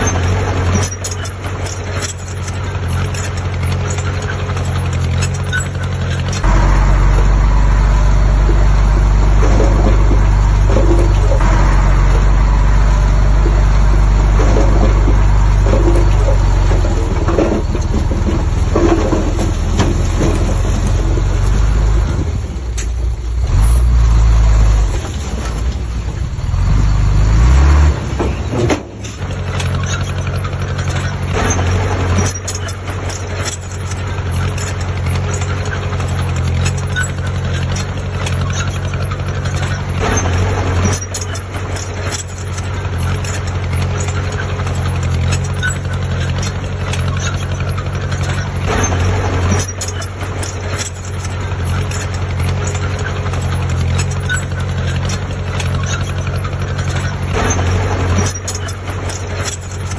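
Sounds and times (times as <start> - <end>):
clicks and rattles: 0.0 - 23.0, 28.1 - 59.9
heavy diesel engine revving: 0.0 - 59.9.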